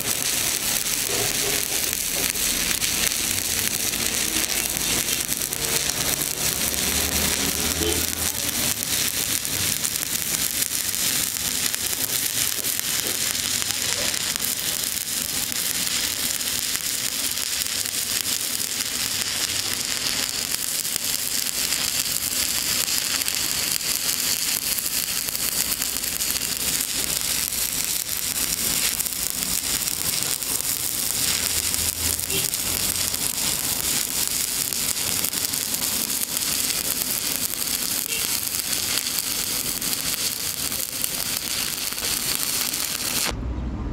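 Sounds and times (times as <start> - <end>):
welding arc crackling: 0.0 - 43.4.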